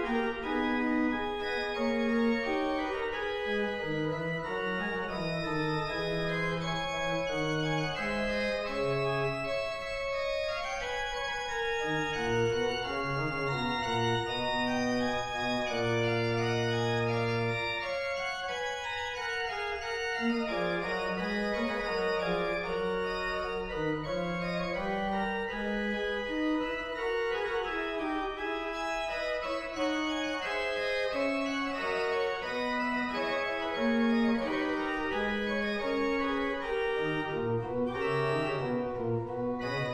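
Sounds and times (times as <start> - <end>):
organ playing sustained chords: 0.0 - 39.9.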